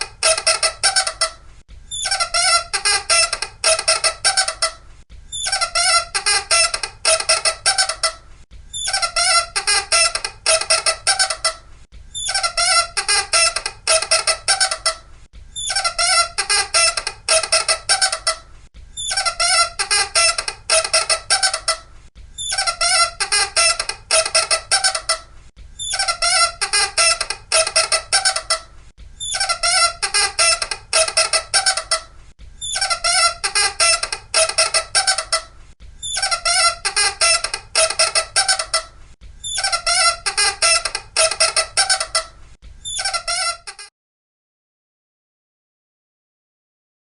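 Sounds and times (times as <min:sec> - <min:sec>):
high-pitched chattering squeaks: 0:00.0 - 0:01.3, 0:01.9 - 0:11.6, 0:12.2 - 0:15.0, 0:15.6 - 0:18.4, 0:19.0 - 0:21.8, 0:22.4 - 0:25.2, 0:25.8 - 0:43.9.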